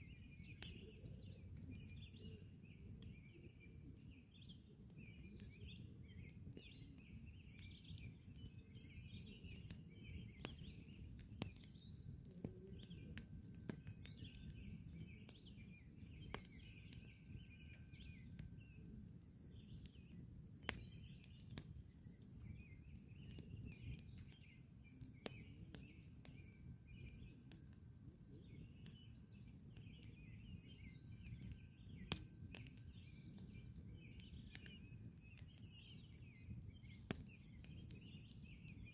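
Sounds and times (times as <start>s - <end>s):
campfire crackling and popping: 0.0s - 38.9s
small birds chirping: 0.0s - 38.9s.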